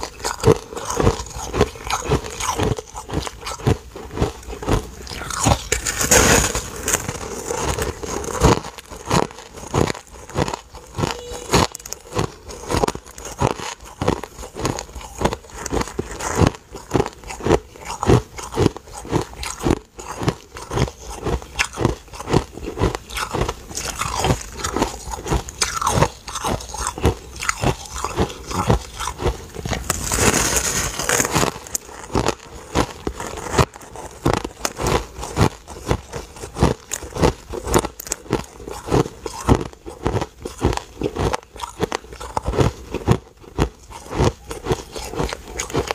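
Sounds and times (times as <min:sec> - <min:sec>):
person crunching ice: 0:00.0 - 0:45.9.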